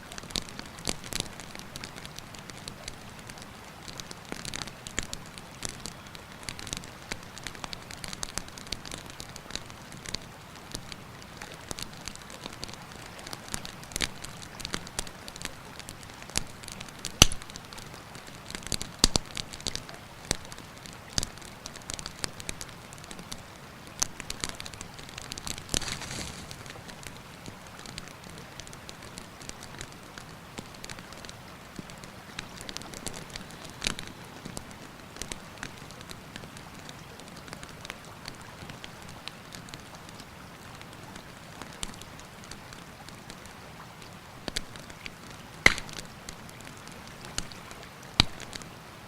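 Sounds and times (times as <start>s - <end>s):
campfire crackling and popping: 0.2s - 40.2s, 44.5s - 48.7s.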